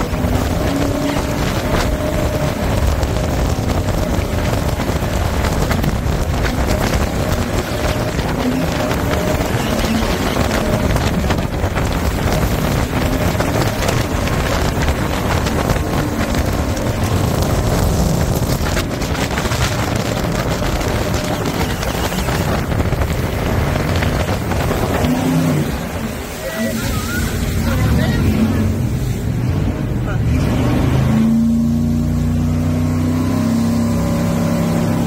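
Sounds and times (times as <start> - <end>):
wind buffeting microphone: 0.0 - 31.3
jet boat engine: 0.0 - 35.0
rushing water: 0.0 - 35.0.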